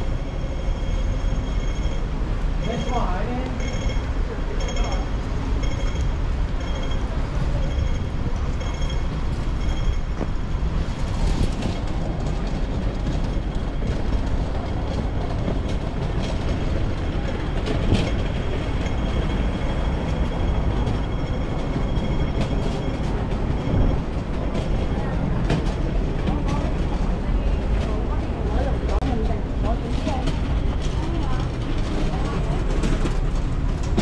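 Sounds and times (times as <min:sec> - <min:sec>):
pedestrian crossing signal beeping: 0:00.0 - 0:10.8, 0:12.2 - 0:29.2
city traffic rumble: 0:00.0 - 0:34.0.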